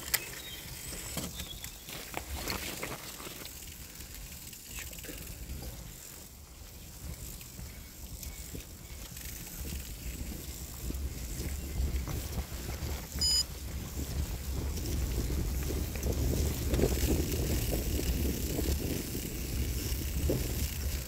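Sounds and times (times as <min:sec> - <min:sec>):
bike clicks and rattles: 0:00.0 - 0:21.0
wind and tyres rumbling: 0:00.0 - 0:21.0.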